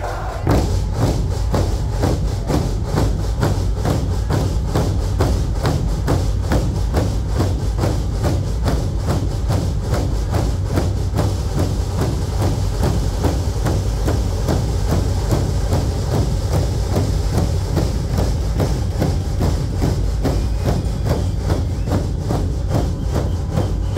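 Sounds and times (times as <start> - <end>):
barrel drums beating: 0.0 - 23.9
high drums rattling: 0.0 - 23.9.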